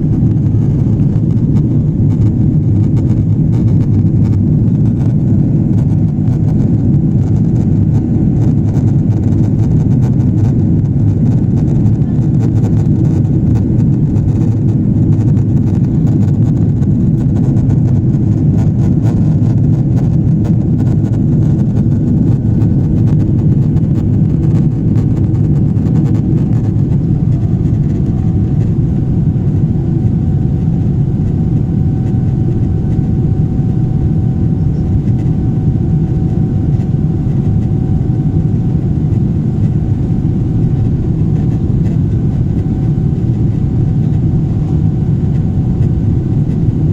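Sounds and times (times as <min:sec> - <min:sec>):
faint steady whine: 0:00.0 - 0:46.9
jet engine and airflow rumble: 0:00.0 - 0:46.9.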